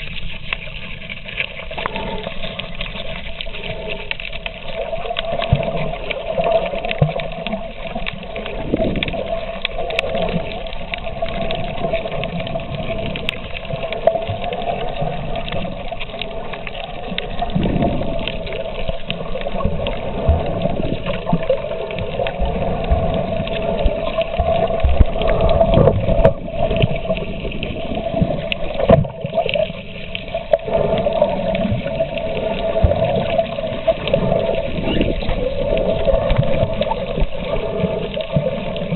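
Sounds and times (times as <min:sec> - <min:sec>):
muffled underwater water noise: 0:00.0 - 0:38.9.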